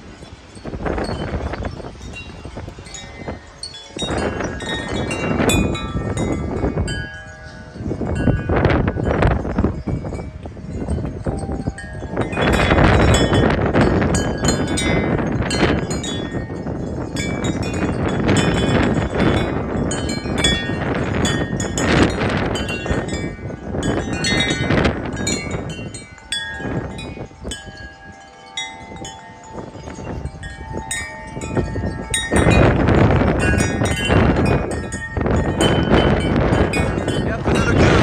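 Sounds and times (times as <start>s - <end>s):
wind chimes ringing: 0.0s - 38.0s
wind rumble on microphone: 0.0s - 38.0s.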